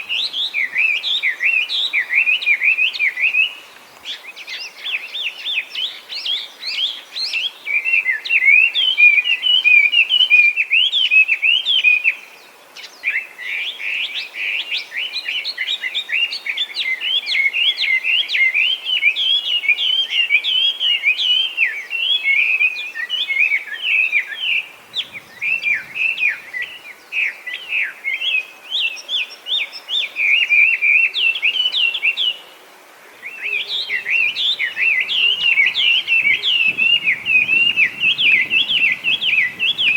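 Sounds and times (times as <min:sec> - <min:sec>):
bird singing whistled notes: 0:00.0 - 0:32.5, 0:33.2 - 0:39.9.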